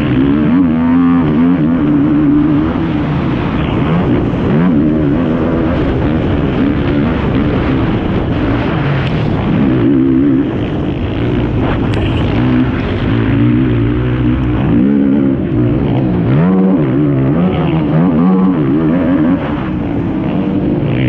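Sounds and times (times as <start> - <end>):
quad engine revving hard: 0.0 - 21.0.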